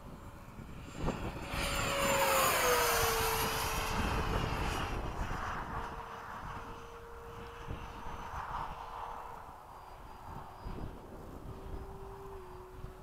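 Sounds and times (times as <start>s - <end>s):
model jet fan whining past: 0.0s - 13.0s
wind rumble on microphone: 0.0s - 13.0s.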